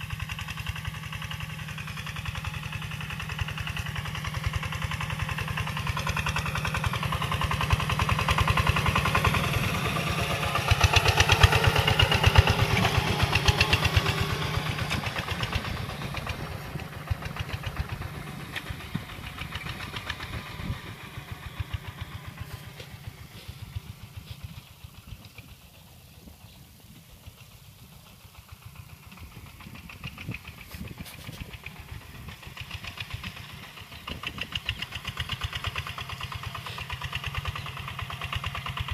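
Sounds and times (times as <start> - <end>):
diesel engine puttering: 0.0 - 38.9.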